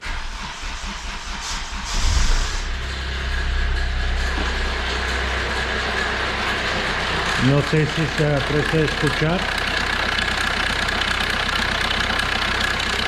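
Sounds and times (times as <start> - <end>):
diesel engine starting and idling: 0.0 - 13.0.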